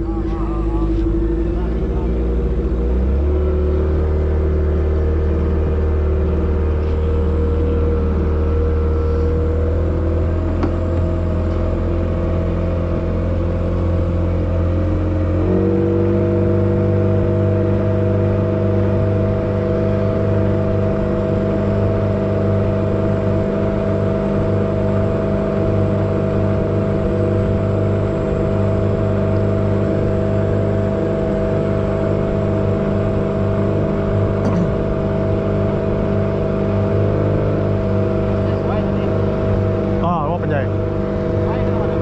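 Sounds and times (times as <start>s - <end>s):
outboard motor humming: 0.0s - 42.0s.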